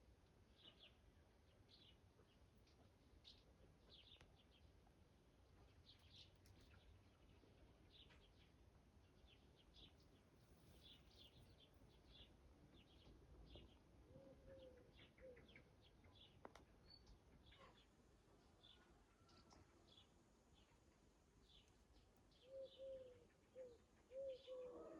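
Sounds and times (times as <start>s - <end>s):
small birds chirping: 0.5s - 24.9s.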